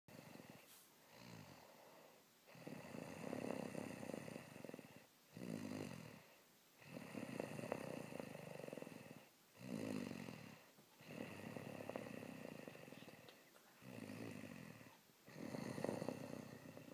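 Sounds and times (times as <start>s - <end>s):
person snoring: 0.1s - 16.9s.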